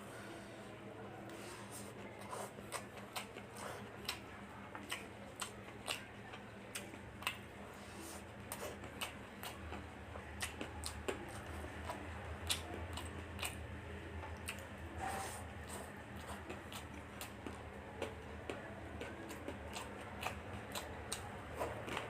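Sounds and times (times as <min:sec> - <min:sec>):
chewing and lip smacking: 0:02.0 - 0:07.6, 0:08.4 - 0:22.0.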